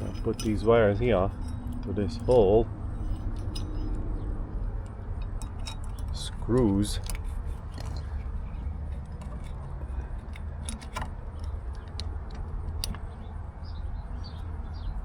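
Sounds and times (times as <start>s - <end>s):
light metallic clicks of screws: 0.0s - 4.0s, 4.6s - 13.3s
steady low rumble: 0.0s - 15.0s.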